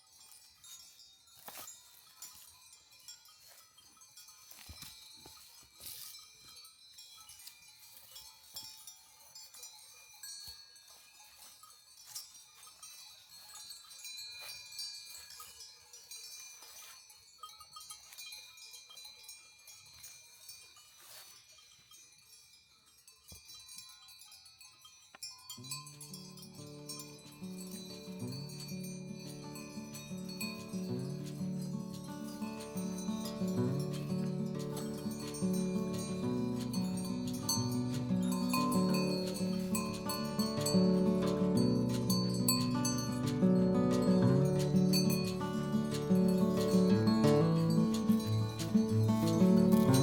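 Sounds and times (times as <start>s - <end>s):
livestock bells tinkling: 0.0s - 50.0s.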